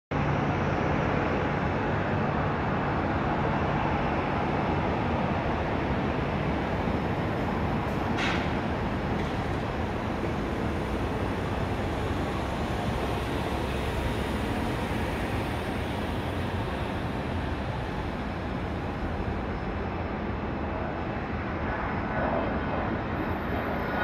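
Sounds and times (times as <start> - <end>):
jet engines roaring: 0.2 - 24.0.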